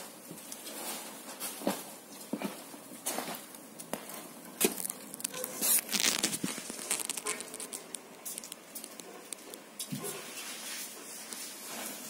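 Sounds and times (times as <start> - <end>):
flowers rustling and crinkling: 0.0 - 12.0.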